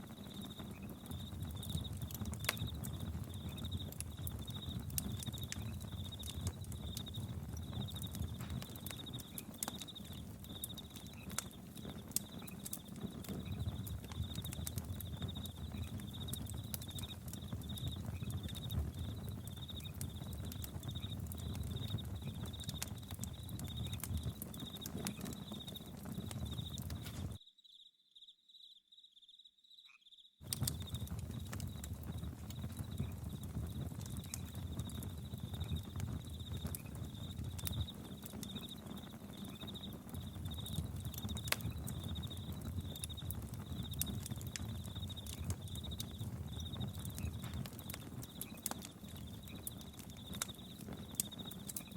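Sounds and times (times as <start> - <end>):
campfire crackling and popping: 0.0 - 27.4, 30.4 - 51.9
crickets chirping: 0.0 - 51.9.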